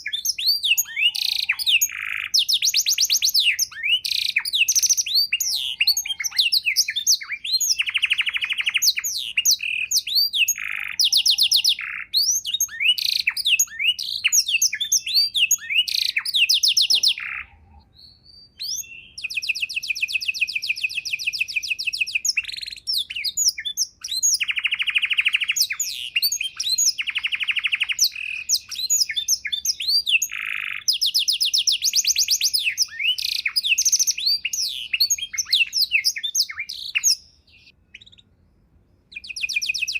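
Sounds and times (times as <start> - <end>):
canary singing trills: 0.0 - 38.4, 39.0 - 39.9.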